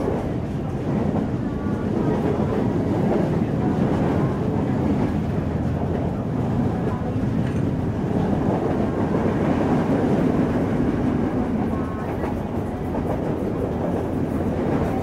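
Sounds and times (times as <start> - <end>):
rushing air of moving train: 0.0 - 15.0
train wheels on rails: 0.0 - 15.0.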